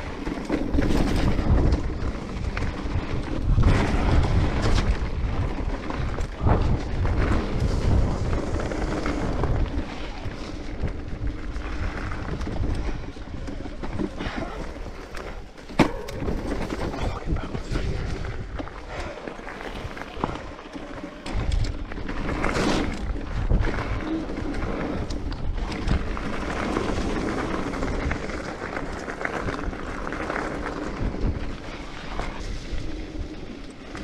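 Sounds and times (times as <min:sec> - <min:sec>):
bike knocks and rattles: 0:00.0 - 0:34.0
bike tyre noise on dirt: 0:00.0 - 0:34.0
wind rumble on microphone: 0:00.0 - 0:34.0.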